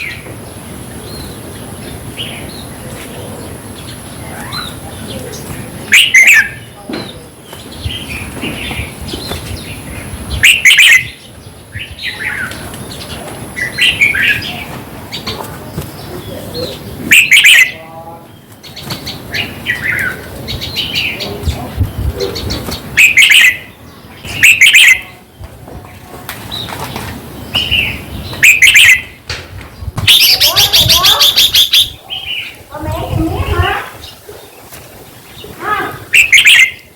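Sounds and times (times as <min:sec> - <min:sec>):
bulbuls calling: 0:00.0 - 0:36.9.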